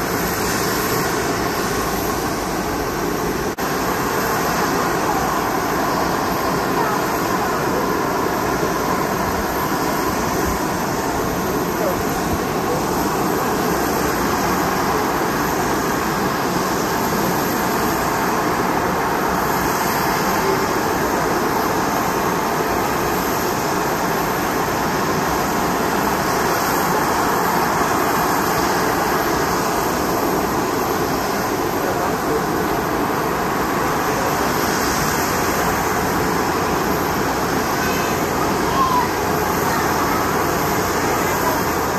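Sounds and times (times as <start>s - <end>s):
rushing roar of aircraft: 0.0s - 41.9s.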